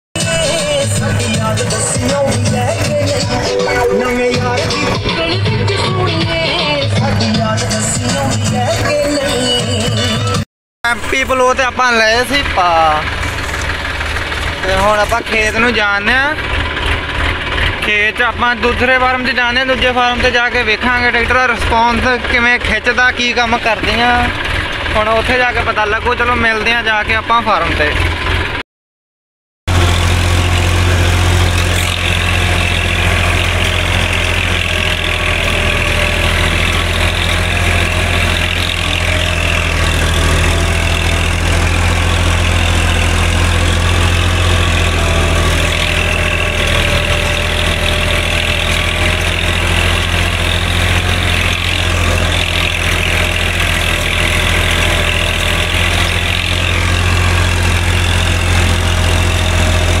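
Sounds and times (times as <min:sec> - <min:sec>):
tractor diesel engine under load: 0:00.0 - 0:28.6, 0:29.7 - 1:00.0.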